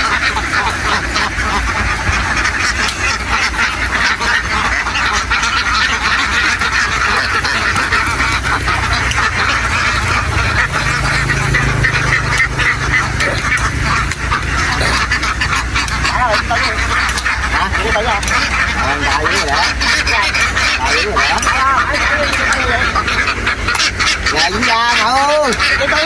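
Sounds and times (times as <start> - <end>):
ducks quacking: 0.0 - 26.0
low steady hum: 0.0 - 26.0.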